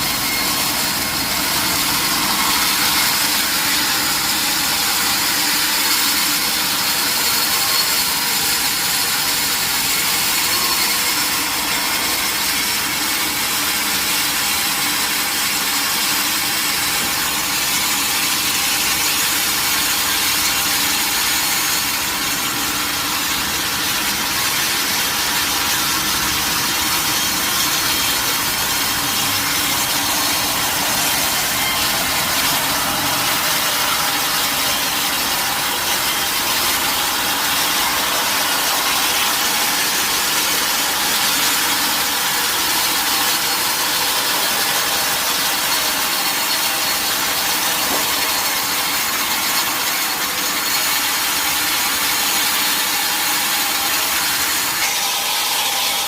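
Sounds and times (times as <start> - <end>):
saw blade cutting log: 0.0 - 56.0.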